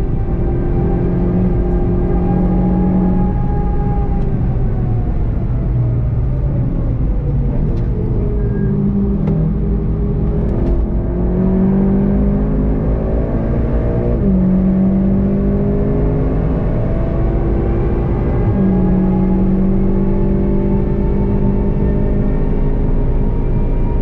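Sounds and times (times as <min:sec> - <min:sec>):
car engine accelerating and braking: 0:00.0 - 0:24.0.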